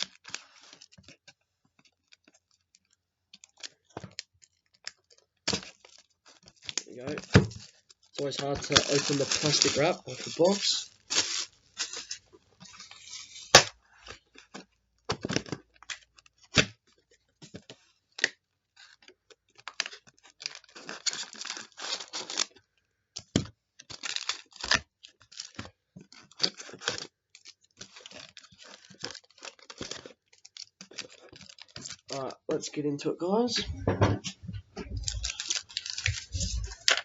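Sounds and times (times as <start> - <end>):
wrapper and cardboard tearing: 0.0 - 1.2, 3.4 - 16.8, 17.6 - 22.7, 23.8 - 32.6, 34.8 - 37.0.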